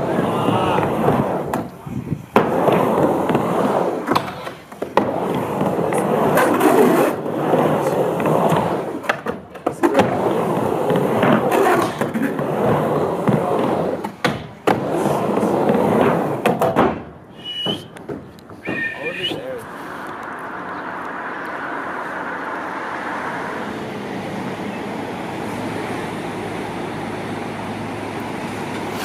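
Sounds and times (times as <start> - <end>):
skateboard clacks: 0.0 - 25.4
skateboard rolling on a ramp: 0.0 - 29.0.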